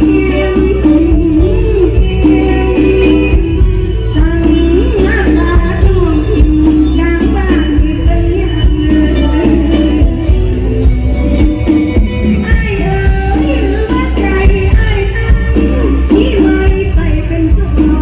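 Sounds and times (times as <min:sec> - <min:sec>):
woman singing into a microphone: 0:00.0 - 0:10.8, 0:11.9 - 0:18.0
amplified band with heavy bass: 0:00.0 - 0:18.0.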